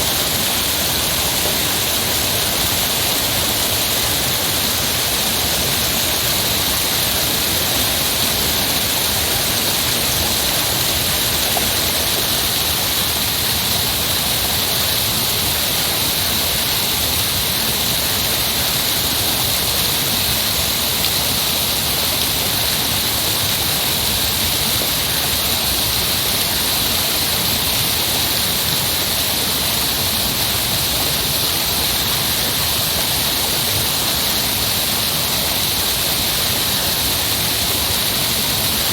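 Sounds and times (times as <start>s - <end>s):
heavy rushing water: 0.0s - 38.9s.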